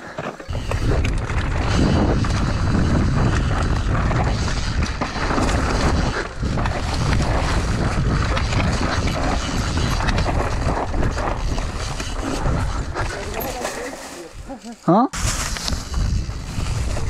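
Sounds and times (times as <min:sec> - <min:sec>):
bike tyre rolling noise: 0:00.0 - 0:13.7, 0:15.2 - 0:17.0
wind buffeting microphone: 0:00.5 - 0:17.0.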